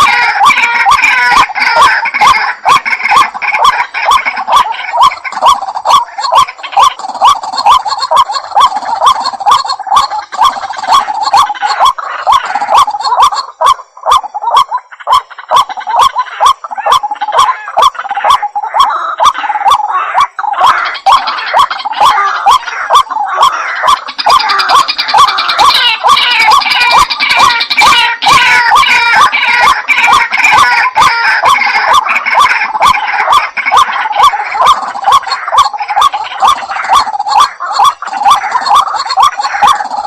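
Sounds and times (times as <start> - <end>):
waterhen calling: 0.0 - 40.0.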